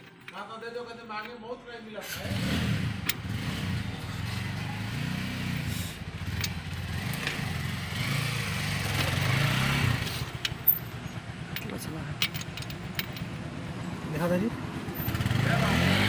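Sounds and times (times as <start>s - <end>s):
vehicle engine running: 2.3s - 16.0s.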